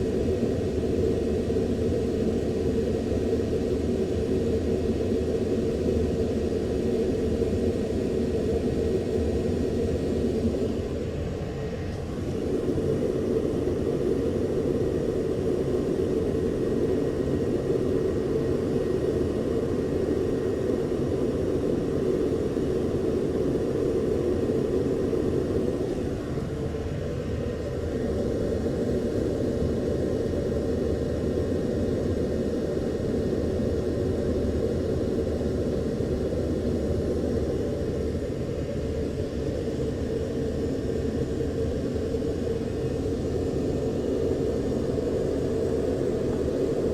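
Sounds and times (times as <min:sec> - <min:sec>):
aircraft engine rumble: 0:09.0 - 0:46.9.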